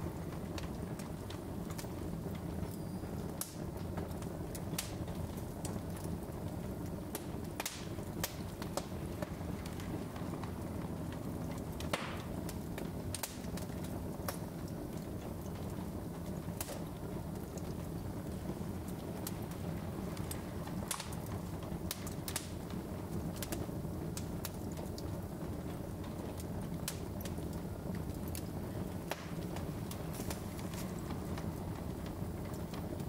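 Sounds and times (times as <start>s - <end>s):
fire burning: 0.0s - 33.0s
wood crackling and popping: 0.0s - 33.0s.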